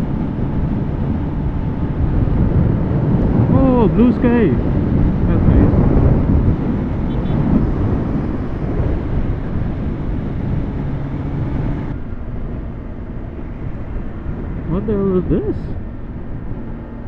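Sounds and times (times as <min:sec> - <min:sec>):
motorcycle engine running: 0:00.0 - 0:14.8
wind rushing over microphone: 0:00.0 - 0:17.0.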